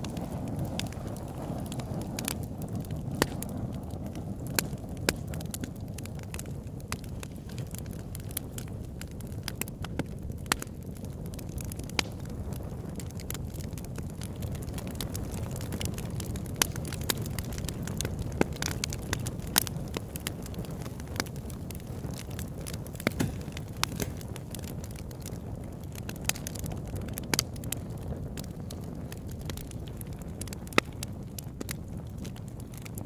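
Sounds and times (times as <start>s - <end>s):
campfire flames burning: 0.0s - 33.0s
wood crackling and popping: 0.0s - 33.0s.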